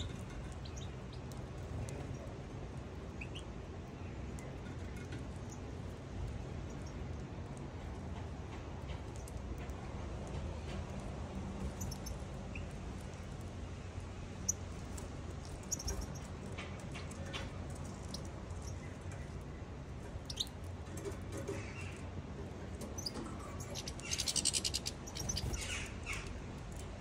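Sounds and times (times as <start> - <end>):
small birds chirping: 0.0 - 7.3, 11.6 - 27.0.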